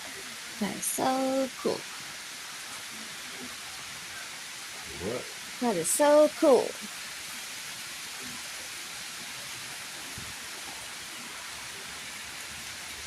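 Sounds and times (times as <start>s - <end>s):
rain pattering on surfaces: 0.0s - 13.0s.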